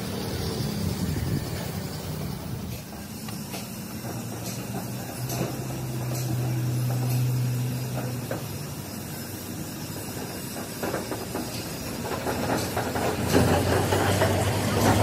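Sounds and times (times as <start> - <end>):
paint spray gun hissing: 0.0 - 14.8.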